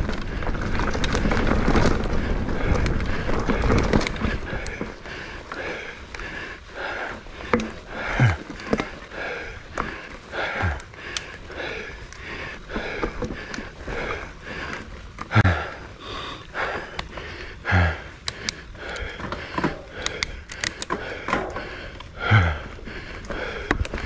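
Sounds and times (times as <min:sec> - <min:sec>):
person breathing heavily: 0:02.0 - 0:24.0.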